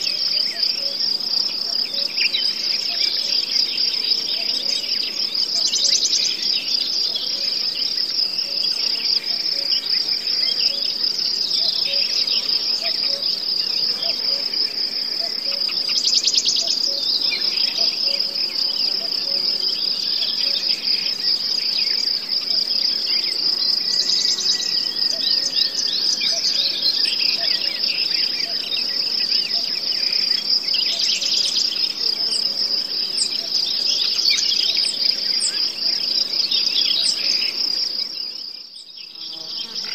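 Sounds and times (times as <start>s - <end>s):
chirring insects: 0.0s - 39.9s.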